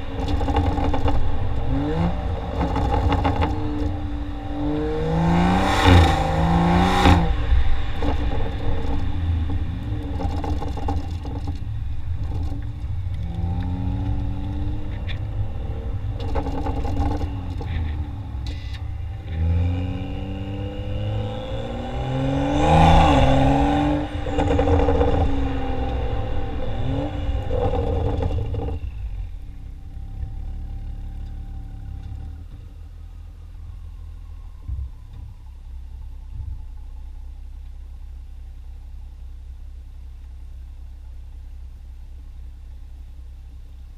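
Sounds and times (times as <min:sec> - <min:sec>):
car exhaust revving: 0:00.0 - 0:43.9.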